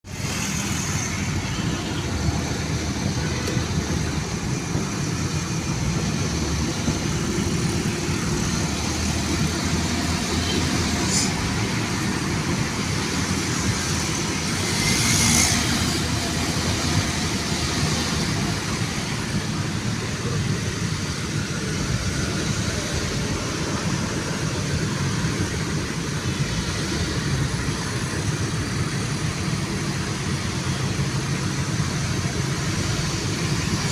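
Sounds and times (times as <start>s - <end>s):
road traffic: 0.0s - 33.9s.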